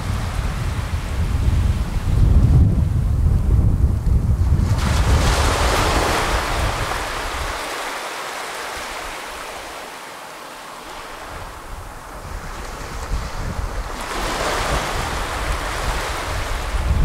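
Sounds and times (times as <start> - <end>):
small waves washing up a beach: 0.0 - 2.2, 4.4 - 17.0.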